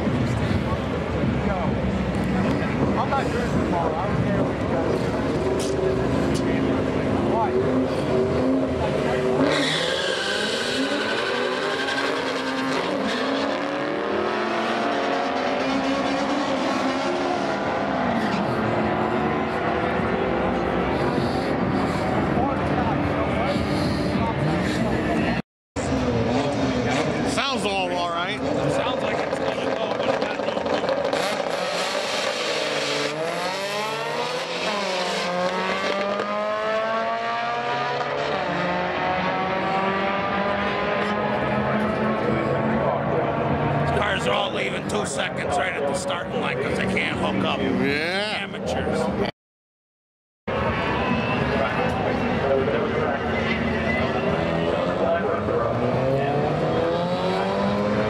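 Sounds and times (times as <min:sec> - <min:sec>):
cars accelerating hard: 0:00.0 - 0:49.3, 0:50.5 - 0:58.0.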